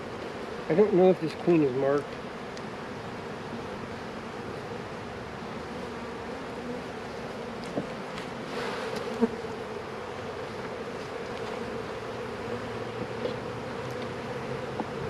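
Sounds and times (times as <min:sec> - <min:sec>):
bees humming: 0:00.0 - 0:15.0.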